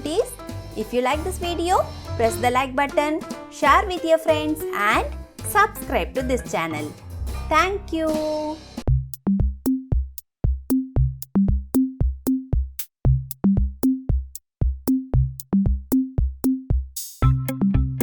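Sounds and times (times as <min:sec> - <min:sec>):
sustained bass line: 0:01.2 - 0:02.9, 0:04.4 - 0:14.2, 0:14.9 - 0:18.0
drum beat: 0:01.2 - 0:18.0.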